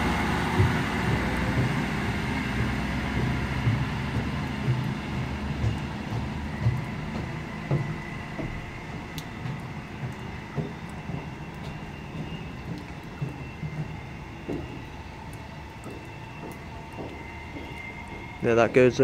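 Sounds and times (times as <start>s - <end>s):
low thumps: 0.0s - 18.5s
diesel train rumbling: 0.0s - 19.0s.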